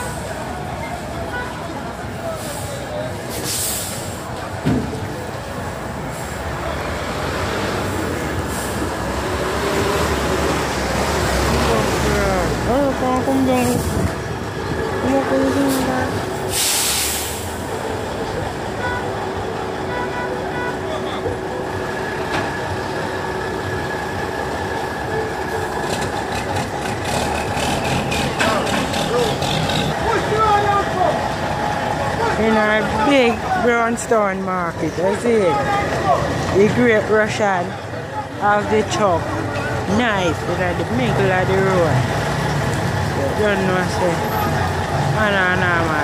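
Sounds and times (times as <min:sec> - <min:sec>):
diesel truck engine rumbling: 0:00.0 - 0:46.0.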